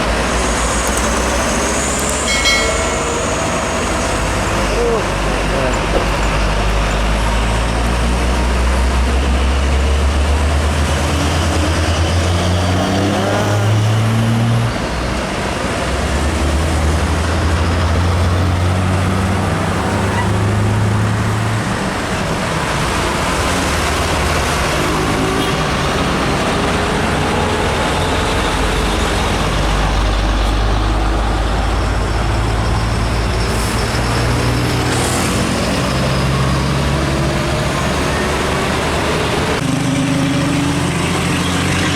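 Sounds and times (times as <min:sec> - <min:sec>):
diesel trucks accelerating: 0:00.0 - 0:41.9
highway traffic: 0:00.0 - 0:41.9.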